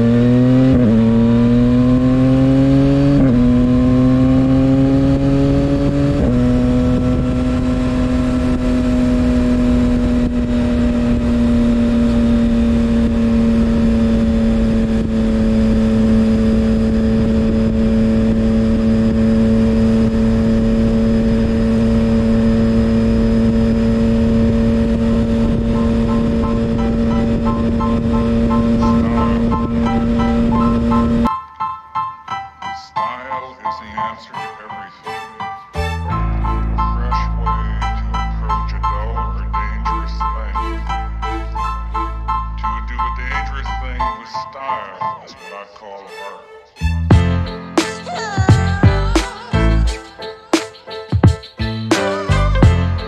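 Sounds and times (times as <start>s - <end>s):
motorcycle engine accelerating: 0.0s - 31.3s, 35.8s - 44.1s, 46.8s - 50.0s, 51.5s - 53.0s.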